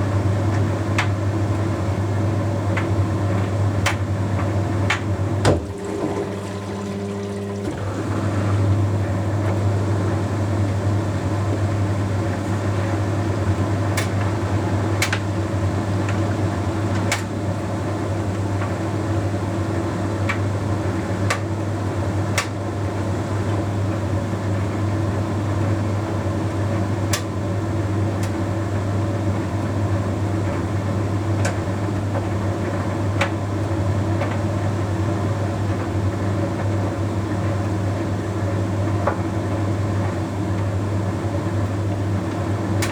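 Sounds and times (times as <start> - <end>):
tumble dryer hum and whir: 0.0 - 42.9.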